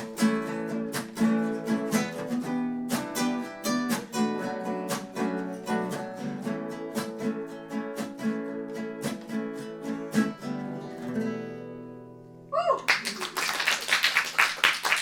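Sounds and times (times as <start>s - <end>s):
guitar strumming: 0.0s - 12.5s.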